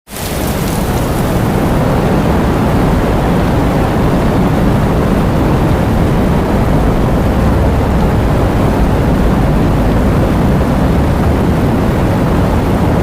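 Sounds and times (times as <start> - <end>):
heavy rain: 0.0 - 13.0
wind: 0.0 - 13.0
deep rumble: 0.3 - 13.0.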